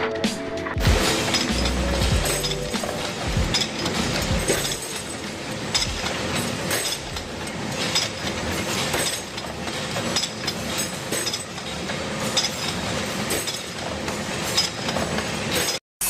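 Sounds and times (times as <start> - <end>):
machinery running: 0.0 - 15.8
metallic clinks and clatter: 1.0 - 15.8.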